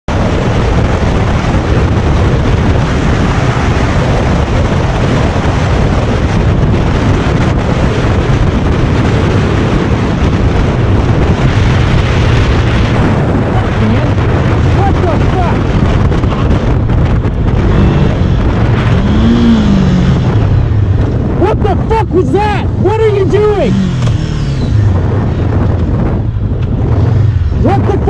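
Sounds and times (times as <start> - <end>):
motorcycle engine rumble: 0.1 - 28.0
wind rushing over microphone: 0.1 - 28.0.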